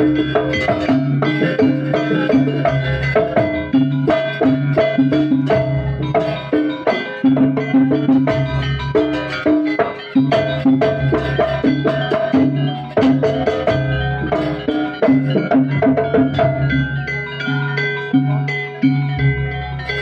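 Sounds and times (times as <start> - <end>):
drums: 0.0 - 20.0
gongs and metallophones ringing: 0.0 - 20.0.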